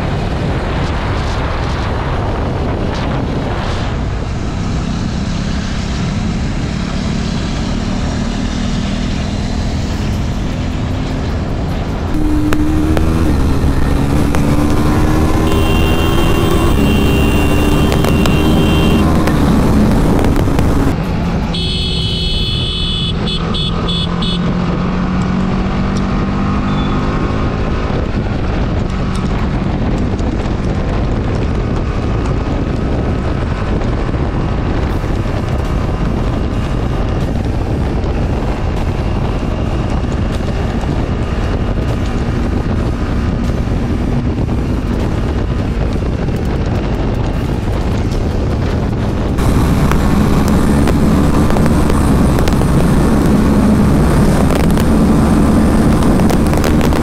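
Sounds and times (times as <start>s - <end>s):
motorcycle engine shifting gears: 2.7s - 21.7s, 23.4s - 57.0s.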